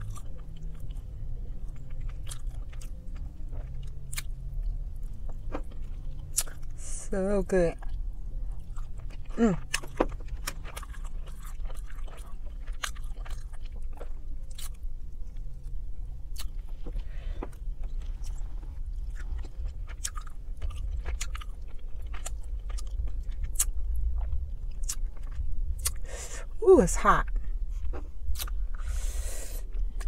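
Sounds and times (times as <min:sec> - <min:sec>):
chewing with wet mouth sounds: 0:00.0 - 0:06.9, 0:07.5 - 0:26.2, 0:27.2 - 0:30.0
low steady hum: 0:00.0 - 0:30.0.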